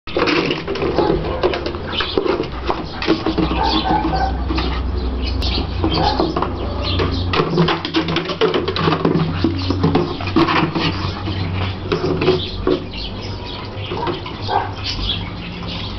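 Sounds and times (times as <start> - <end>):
plastic container scraping over concrete: 0.1 - 15.9.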